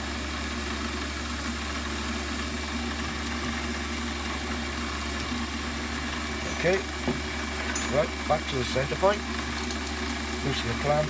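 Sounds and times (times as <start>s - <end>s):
bench lathe humming: 0.0s - 11.0s.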